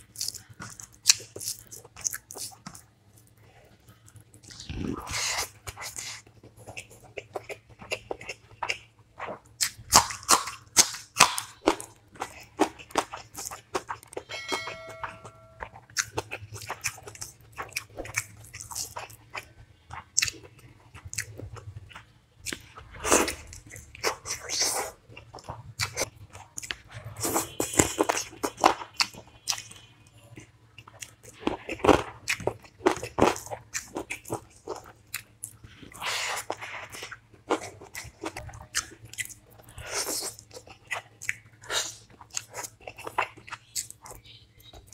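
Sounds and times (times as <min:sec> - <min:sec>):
biting and chewing food: 0:00.0 - 0:14.4, 0:15.1 - 0:44.9.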